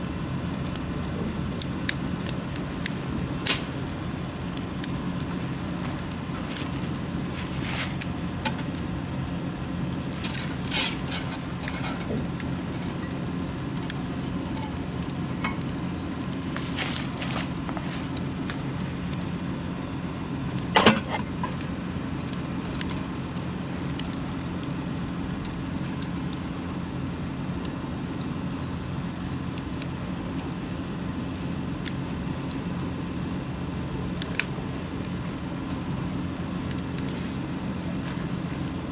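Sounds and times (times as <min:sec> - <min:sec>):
steady low hum: 0:00.0 - 0:38.9
wood fire crackling and popping: 0:00.0 - 0:38.9.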